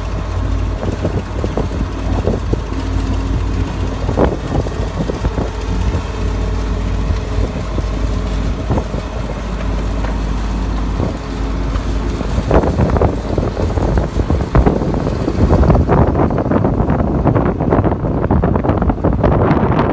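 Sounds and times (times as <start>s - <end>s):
bulldozer engine running: 0.0s - 19.9s.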